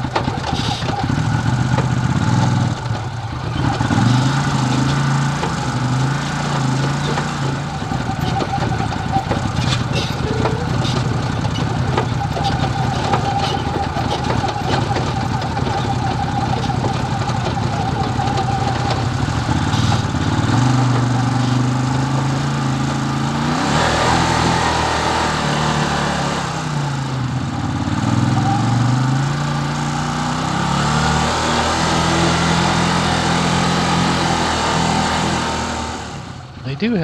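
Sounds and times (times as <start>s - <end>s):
utility vehicle engine running: 0.0s - 37.0s.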